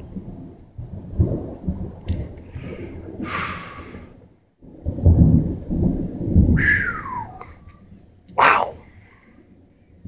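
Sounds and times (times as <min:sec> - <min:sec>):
sharp thunder cracks: 0:00.0 - 0:09.0
thunder rumbling: 0:00.0 - 0:10.0.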